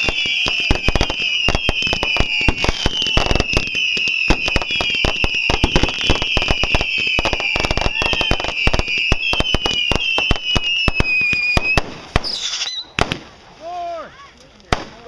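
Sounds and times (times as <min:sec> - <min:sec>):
whistling fireworks: 0:00.0 - 0:13.3
firework cracks and pops: 0:00.0 - 0:13.5, 0:14.3 - 0:15.0.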